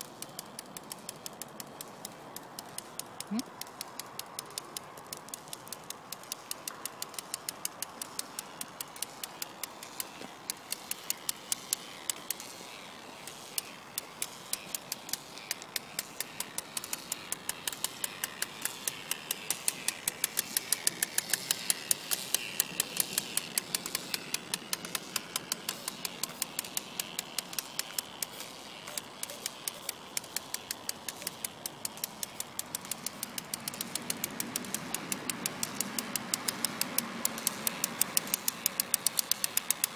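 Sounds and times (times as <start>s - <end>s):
toy boat motor rapid clicking: 0.0s - 39.9s.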